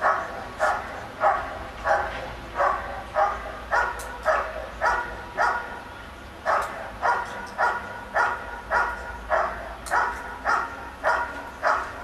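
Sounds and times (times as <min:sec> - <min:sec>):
dog barking: 0:00.0 - 0:05.8, 0:06.4 - 0:12.0.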